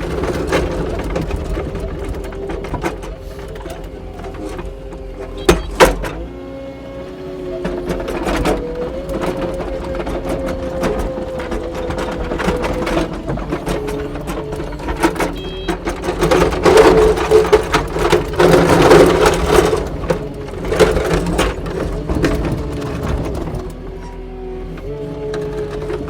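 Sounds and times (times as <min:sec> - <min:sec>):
knocks and rattles: 0:00.0 - 0:06.3, 0:07.5 - 0:24.2
diesel engine under load: 0:00.0 - 0:26.0.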